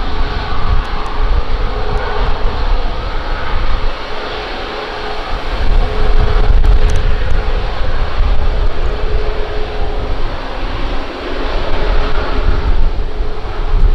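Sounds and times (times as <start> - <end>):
jet engines whining: 0.0 - 13.9
wind buffeting microphone: 0.0 - 13.9.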